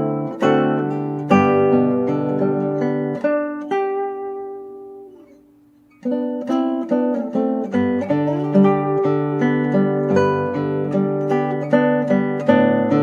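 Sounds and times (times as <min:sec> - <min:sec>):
plucked acoustic guitar: 0:00.0 - 0:13.0.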